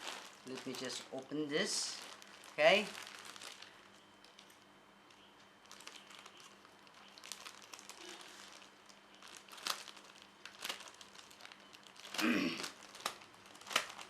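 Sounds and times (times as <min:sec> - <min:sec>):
package wrapping crinkling: 0:00.0 - 0:14.0
wrapping snapping or tearing: 0:00.0 - 0:14.0.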